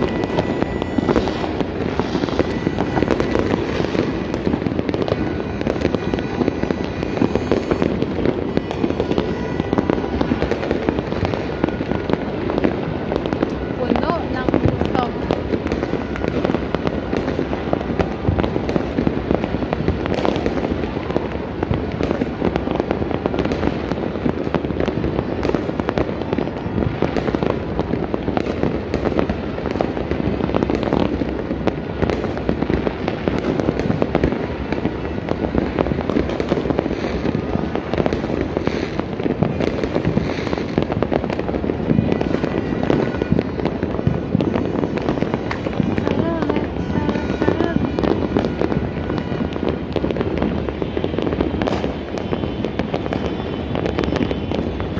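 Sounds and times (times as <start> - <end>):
firework bangs: 0.0 - 54.9
fireworks crackling: 0.0 - 54.9.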